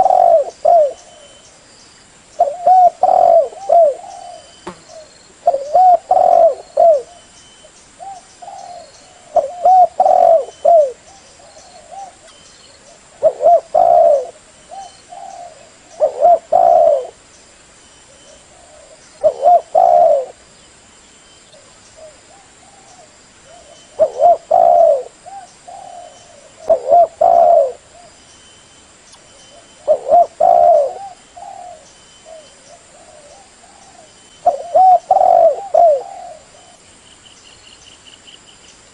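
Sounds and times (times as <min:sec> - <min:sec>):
dove cooing: 0:00.0 - 0:01.4, 0:02.4 - 0:07.3, 0:08.0 - 0:17.2, 0:18.1 - 0:20.4, 0:21.5 - 0:28.2, 0:29.3 - 0:36.8.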